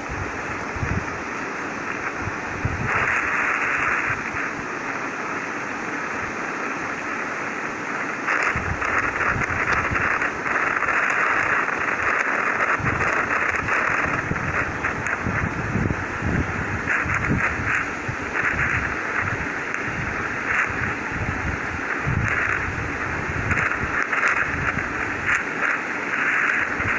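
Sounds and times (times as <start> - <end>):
steady rushing hiss: 0.0 - 26.9.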